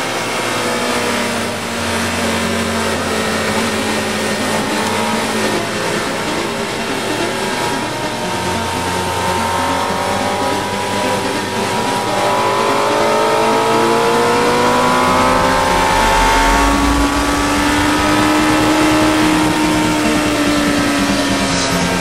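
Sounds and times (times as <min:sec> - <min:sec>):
motorcycle engine accelerating: 0:00.0 - 0:22.0
wind and road noise: 0:00.0 - 0:22.0.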